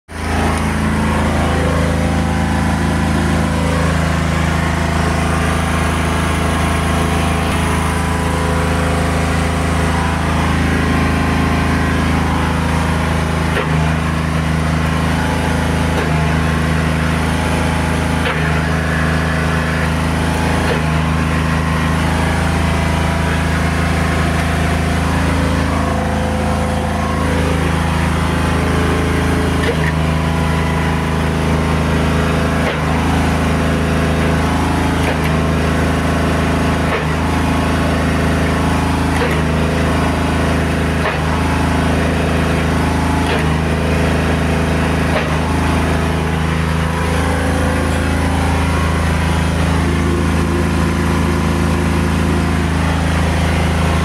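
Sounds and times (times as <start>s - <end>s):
bending machine droning: 0.1s - 54.0s.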